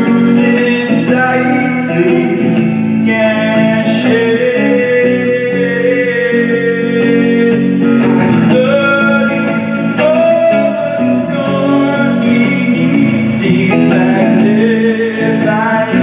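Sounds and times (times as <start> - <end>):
guitar chords: 0.0 - 16.0.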